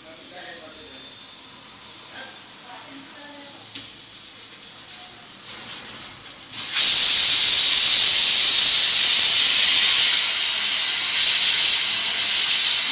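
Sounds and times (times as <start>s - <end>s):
loud high hiss: 0.0s - 12.9s.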